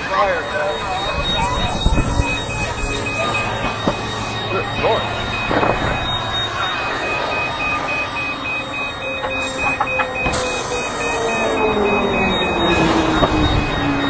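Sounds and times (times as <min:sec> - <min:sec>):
noisy rumble: 0:00.0 - 0:14.0
rapid electronic beeping alarm: 0:00.0 - 0:14.0.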